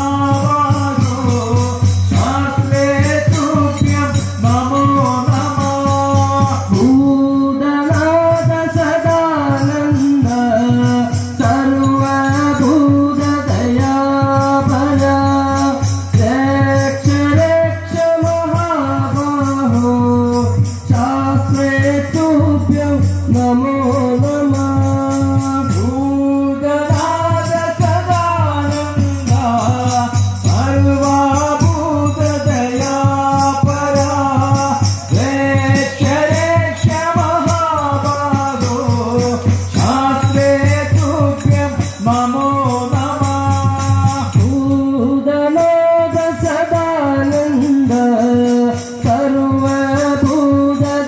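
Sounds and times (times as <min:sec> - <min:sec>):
devotional chanting: 0:00.0 - 0:51.0
jingling percussion: 0:00.0 - 0:51.0.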